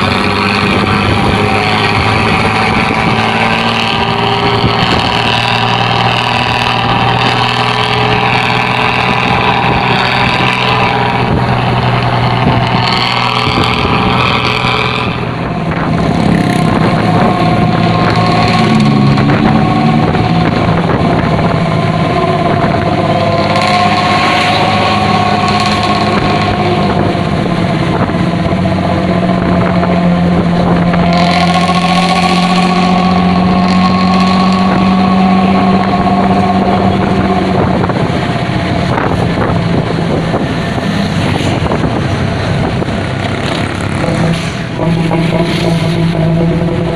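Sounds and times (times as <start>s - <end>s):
bus diesel engine rumbling: 0.0s - 46.9s.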